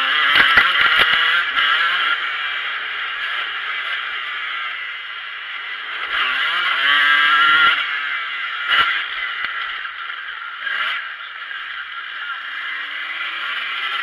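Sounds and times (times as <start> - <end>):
motocross bike engine revving: 0.0 - 14.0
wind: 0.0 - 14.0.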